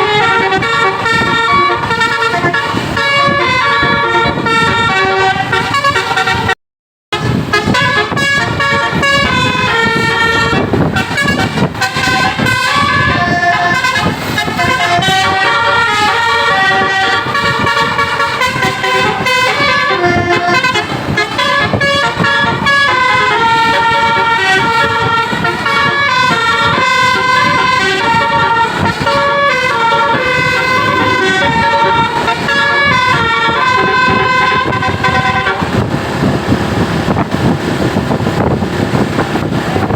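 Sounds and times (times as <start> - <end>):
musical bus air horns: 0.0 - 39.9.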